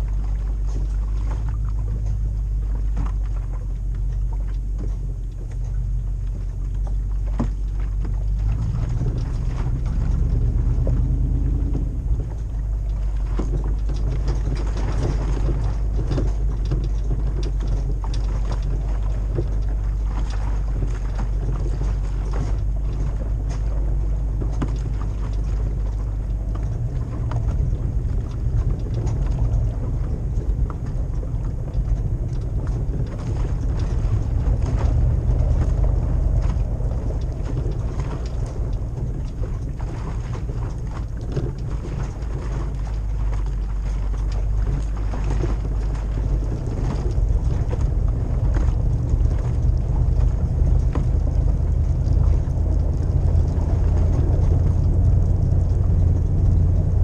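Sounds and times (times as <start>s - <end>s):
car engine deep rumble: 0.0s - 57.0s
knocks and rattles over rough ground: 0.0s - 57.0s.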